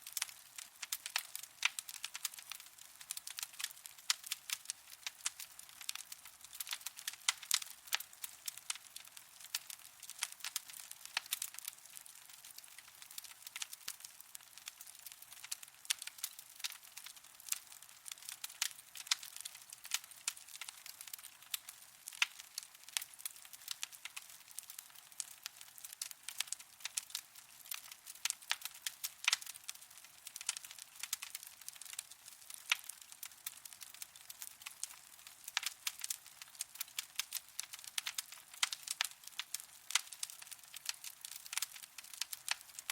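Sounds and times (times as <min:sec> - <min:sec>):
soft hiss of fire: 0:00.0 - 0:42.9
wood fire crackling and popping: 0:00.0 - 0:42.9.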